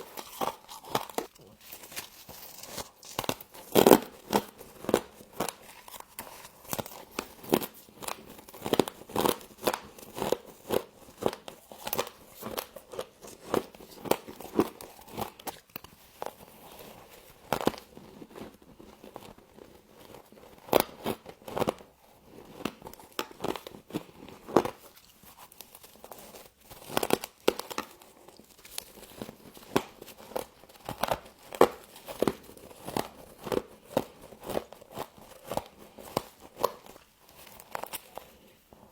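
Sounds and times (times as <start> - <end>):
frost crunching as chewed: 0.0 - 38.9.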